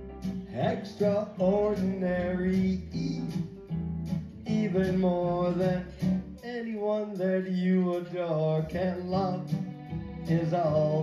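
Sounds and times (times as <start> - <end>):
bass line: 0.0 - 11.0
guitar playing chords: 0.0 - 11.0
man singing into a microphone: 0.5 - 3.5, 4.4 - 9.6, 10.2 - 11.0.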